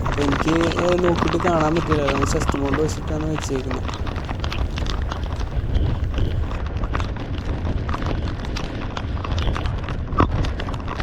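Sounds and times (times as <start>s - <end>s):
motorcycle low rumble: 0.0s - 11.0s
rain pattering on camera: 0.0s - 11.0s.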